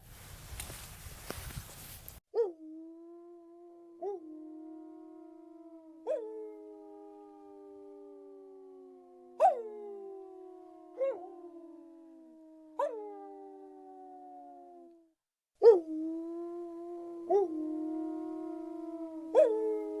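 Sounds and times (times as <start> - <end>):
wolves howling: 2.6 - 15.0, 15.6 - 20.0.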